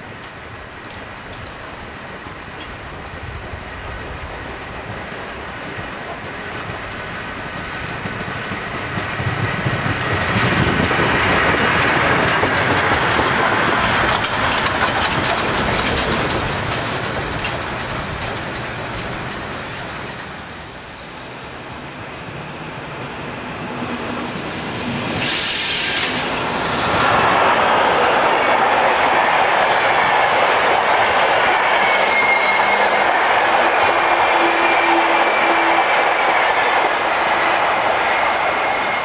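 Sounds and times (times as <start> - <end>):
steam locomotive passing: 0.0 - 39.0.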